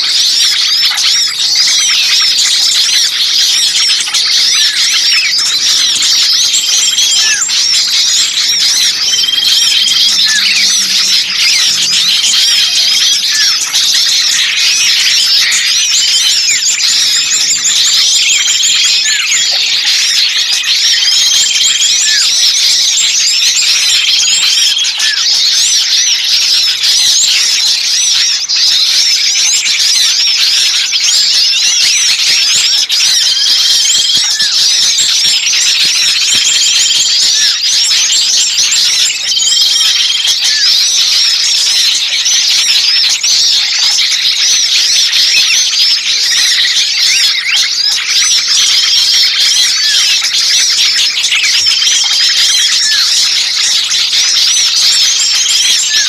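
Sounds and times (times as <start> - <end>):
songbirds chirping chorus: 0.0 - 56.0.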